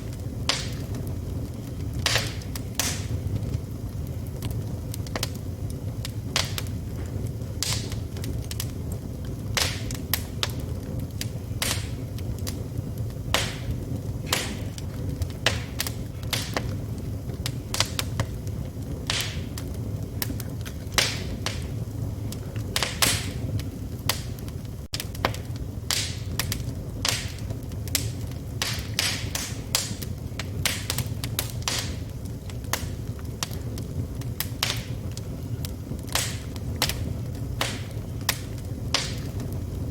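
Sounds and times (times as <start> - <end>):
fire pops and snaps: 0.0 - 39.9
low rumble of flames: 0.0 - 39.9.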